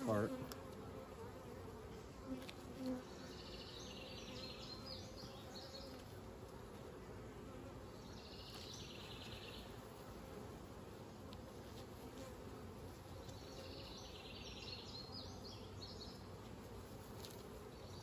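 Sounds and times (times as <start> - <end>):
bees humming: 0.0 - 18.0.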